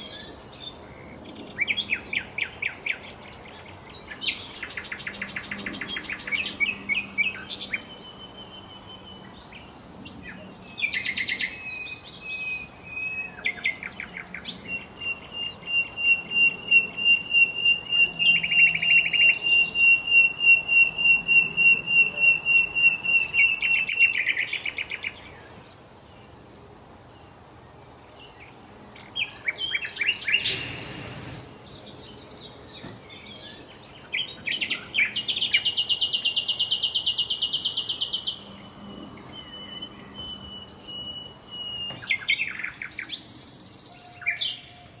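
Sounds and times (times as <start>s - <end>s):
songbirds trilling and chirping: 0.0s - 45.0s.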